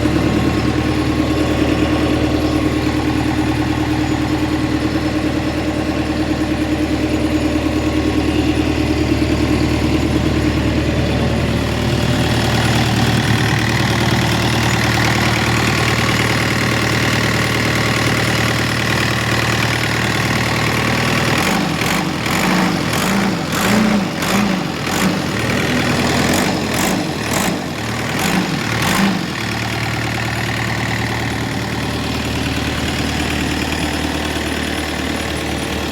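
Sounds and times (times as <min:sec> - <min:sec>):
excavator diesel engine idling: 0:00.0 - 0:35.9.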